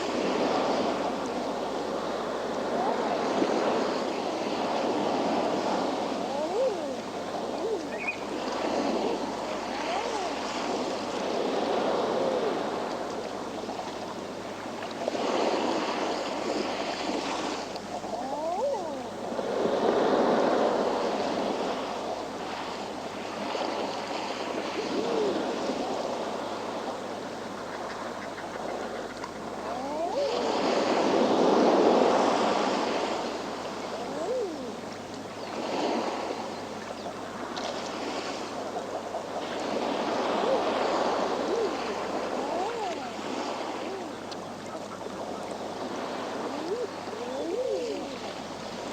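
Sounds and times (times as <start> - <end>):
seabird calls: 0.0 - 22.2, 24.2 - 48.9
waves breaking on rocks: 0.0 - 27.0, 29.4 - 36.5, 37.3 - 48.9.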